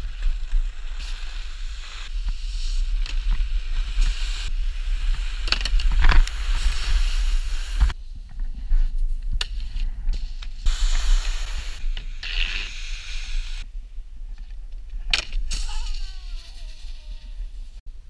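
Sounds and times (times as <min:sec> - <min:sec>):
snowboard edges scraping snow: 0:00.0 - 0:13.6, 0:15.4 - 0:17.8.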